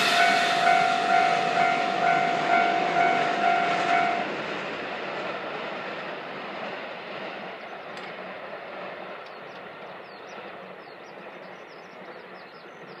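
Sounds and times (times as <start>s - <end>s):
electric train rolling rumble: 0.0s - 13.0s.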